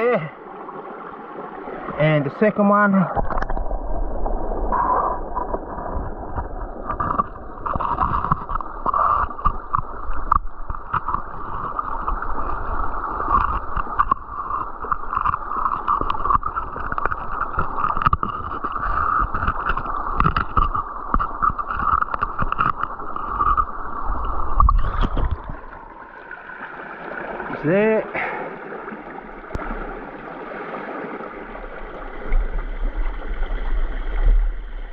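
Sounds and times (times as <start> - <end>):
creek water gurgling: 0.0 - 34.9.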